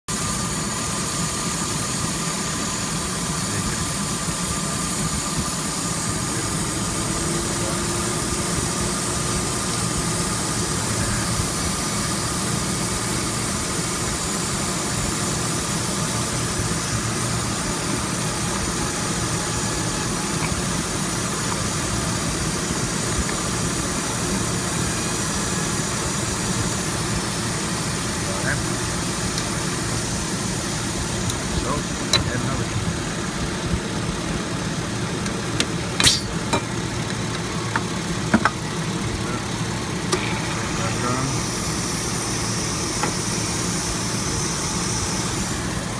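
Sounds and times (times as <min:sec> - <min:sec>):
car engine idling: 0:00.1 - 0:45.9
constant hiss: 0:00.3 - 0:45.9.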